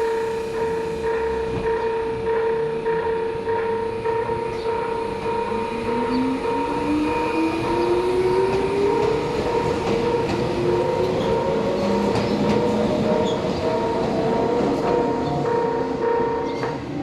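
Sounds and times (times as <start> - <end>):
two-tone crossing warning alarm: 0.0 - 17.0.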